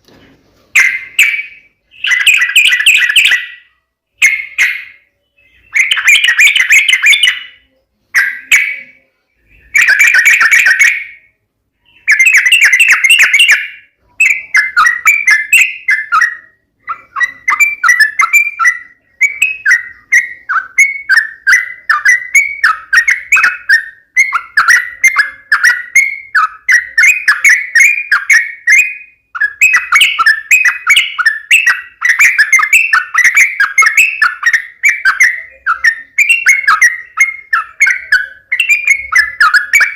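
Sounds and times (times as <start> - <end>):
bird singing in chattering bursts: 0.7 - 39.9.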